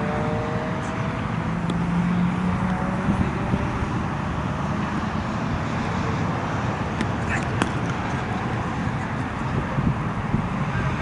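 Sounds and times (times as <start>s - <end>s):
distant road traffic rumble: 0.0s - 11.0s
vehicle engine hum: 0.0s - 11.0s.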